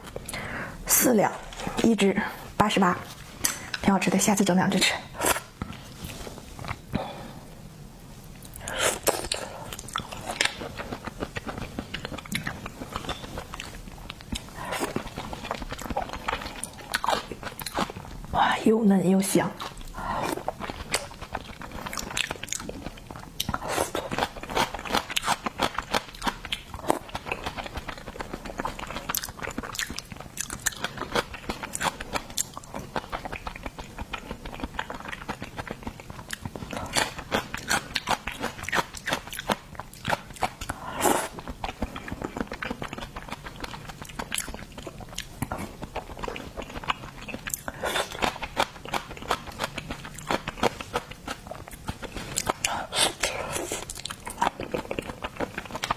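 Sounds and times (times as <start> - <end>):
chewing and crunching: 8.4 - 18.4, 19.2 - 55.9.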